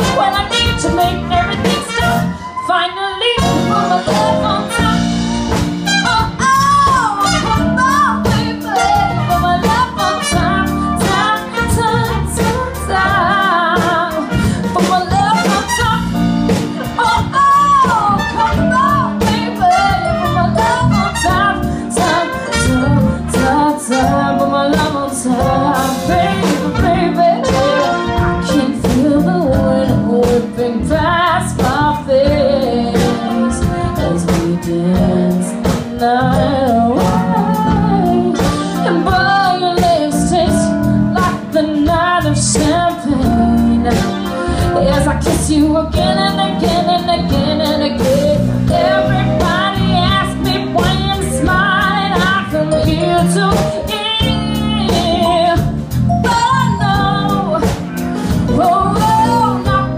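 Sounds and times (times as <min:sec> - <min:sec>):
guitar accompaniment: 0:00.0 - 0:59.9
woman singing: 0:00.0 - 0:59.9.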